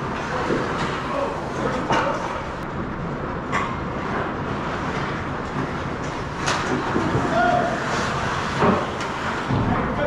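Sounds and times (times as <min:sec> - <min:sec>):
rumble of hockey play: 0:00.0 - 0:10.0.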